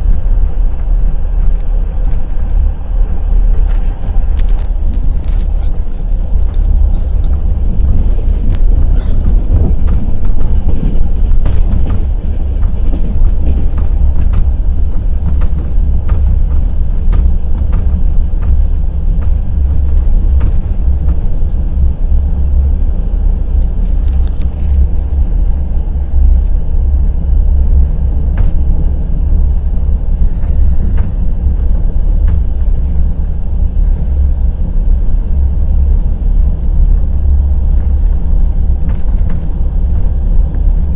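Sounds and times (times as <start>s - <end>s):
train rumbling: 0.0s - 40.9s
train wheels clattering on rail joints: 0.0s - 40.9s.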